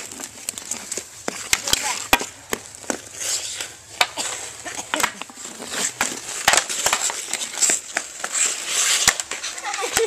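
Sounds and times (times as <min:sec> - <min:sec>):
hockey sticks clacking on ice: 0:00.0 - 0:10.0
skate blades scraping ice: 0:00.0 - 0:10.0.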